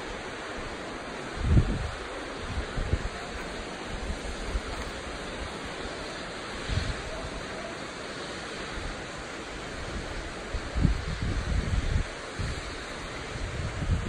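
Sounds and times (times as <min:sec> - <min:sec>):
wind blowing over microphone: 0:00.0 - 0:07.7, 0:08.7 - 0:14.0.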